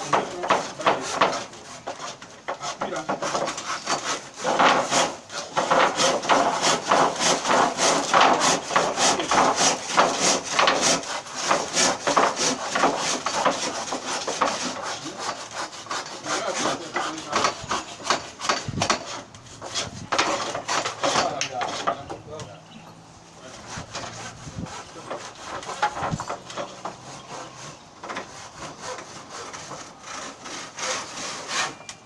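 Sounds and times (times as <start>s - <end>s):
hand saw cutting wood: 0.0s - 22.4s, 23.4s - 32.0s.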